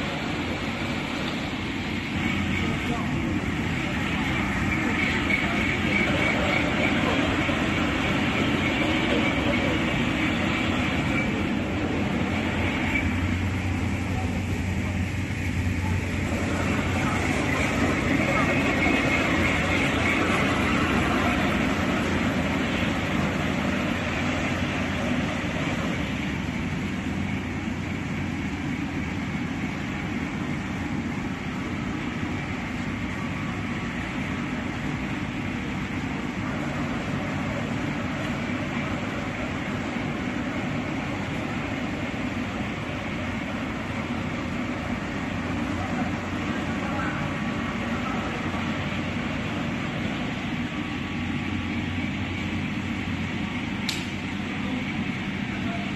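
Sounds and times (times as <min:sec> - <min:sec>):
factory machinery rumbling: 0:00.0 - 0:55.9
faint high whine: 0:00.0 - 0:55.9.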